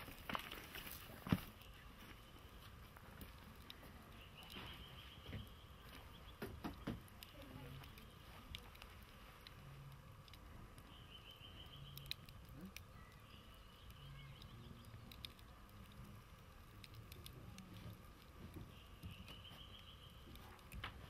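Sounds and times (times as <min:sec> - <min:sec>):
campfire embers crackling: 0:00.0 - 0:21.0.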